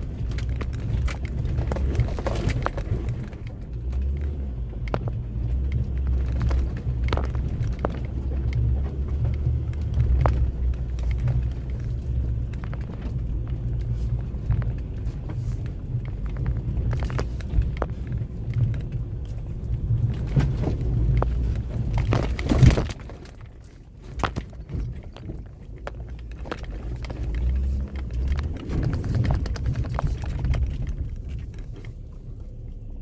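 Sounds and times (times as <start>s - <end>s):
knocks and rattles: 0.0s - 32.2s
vehicle engine rumbling: 0.0s - 33.0s.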